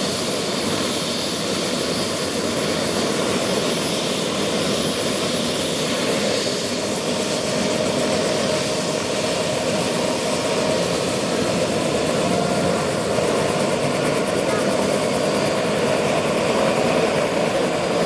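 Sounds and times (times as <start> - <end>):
helicopter rotor noise: 0.0 - 18.0
helicopter turbine whine: 0.0 - 18.0.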